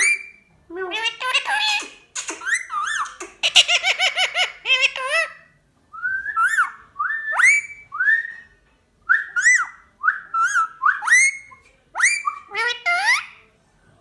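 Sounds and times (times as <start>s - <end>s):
parrot whistling: 0.0s - 5.4s, 6.0s - 8.4s, 9.1s - 13.3s.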